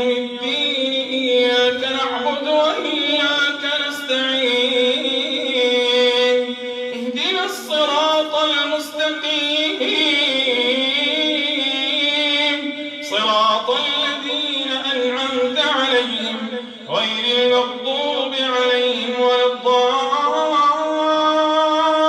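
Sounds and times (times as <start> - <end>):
man chanting recitation: 0.0 - 22.0.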